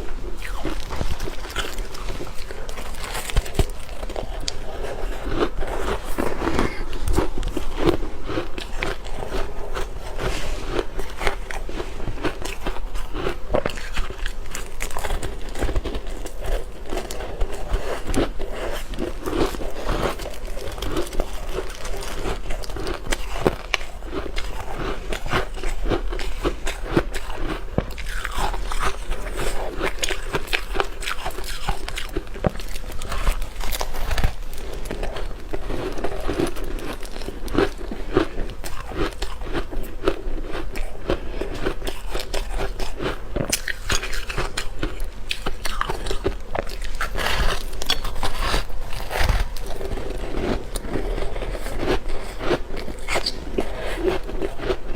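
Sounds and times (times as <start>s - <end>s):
ice crunching while chewed: 0.0s - 54.9s.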